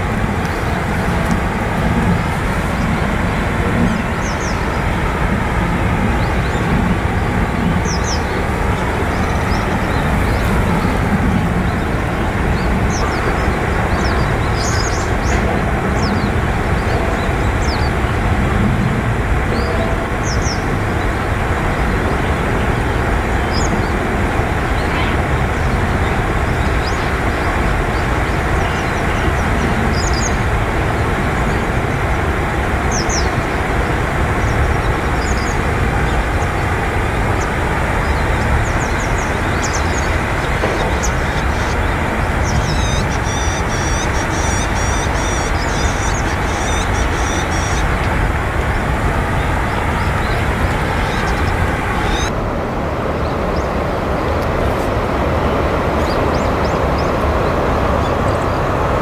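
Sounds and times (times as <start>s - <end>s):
small birds chirping: 0.0s - 18.3s, 19.5s - 52.3s
river water rushing: 0.0s - 59.0s.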